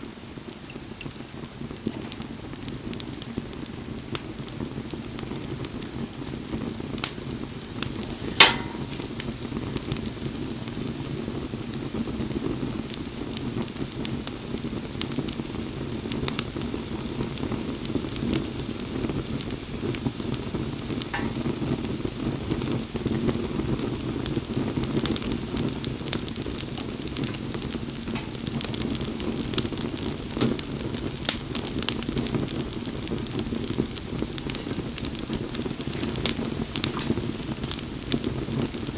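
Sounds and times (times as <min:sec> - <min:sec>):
burning wood crackling and popping: 0:00.0 - 0:38.9
wood fire flame noise: 0:00.0 - 0:38.9.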